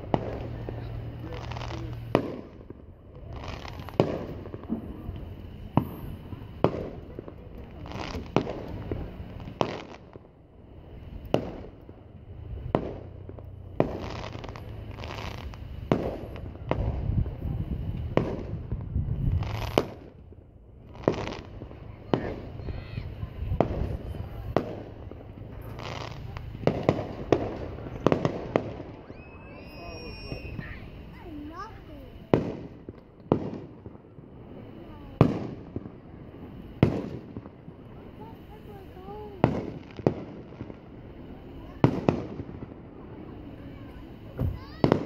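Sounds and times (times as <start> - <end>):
fireworks bursting with echoing bangs: 0.0 - 45.0.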